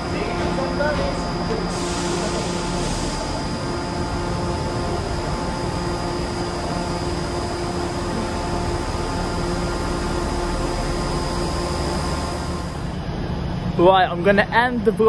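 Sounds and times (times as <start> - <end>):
humming tones: 0.0 - 13.7.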